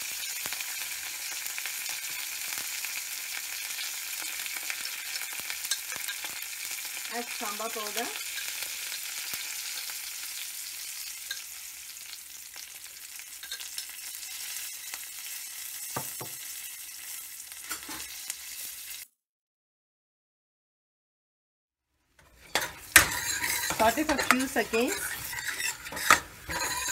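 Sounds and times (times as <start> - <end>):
oil sizzling in a pan: 0.0 - 19.2, 22.0 - 26.9.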